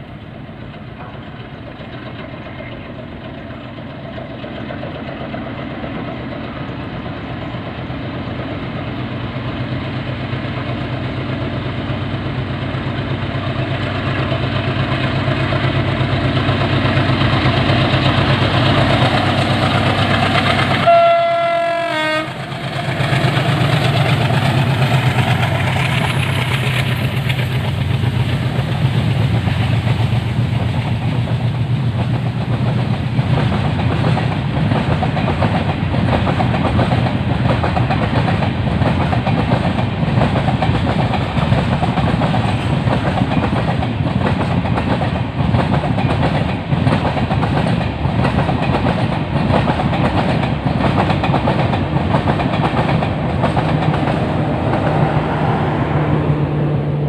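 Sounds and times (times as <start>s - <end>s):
diesel locomotive drone: 0.0s - 57.0s
train wheels clacking over rail joints: 0.1s - 55.2s.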